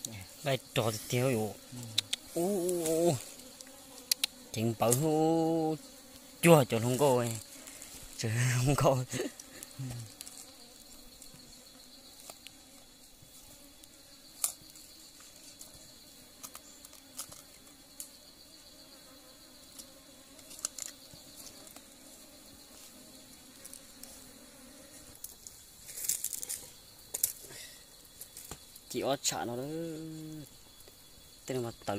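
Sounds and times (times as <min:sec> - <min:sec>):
forest insects droning: 0:00.0 - 0:31.9.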